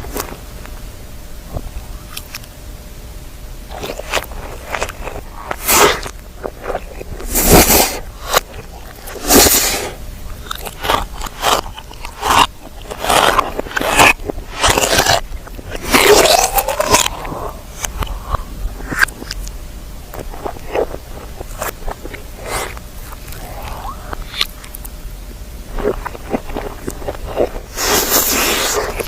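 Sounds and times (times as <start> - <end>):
crunchy bites and chewing: 1.5 - 2.5, 3.6 - 29.0.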